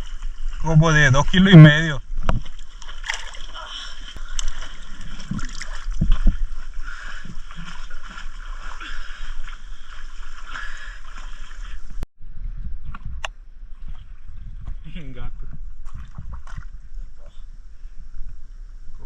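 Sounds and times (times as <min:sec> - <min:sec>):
water sloshing and gurgling: 0:00.0 - 0:12.0, 0:12.9 - 0:14.8, 0:15.4 - 0:17.4.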